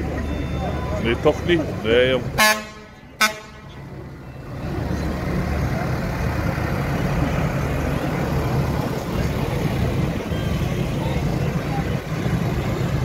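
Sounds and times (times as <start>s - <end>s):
tractor diesel engine rumble: 0.0s - 13.0s.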